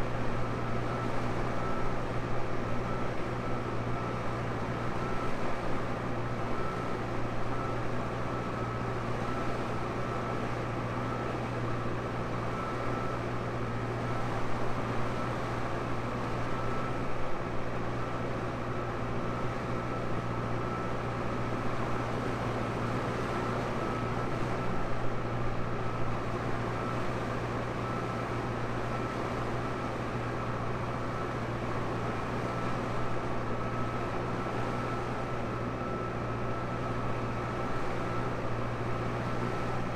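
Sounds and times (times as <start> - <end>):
thin steady whine: 0.0 - 39.9.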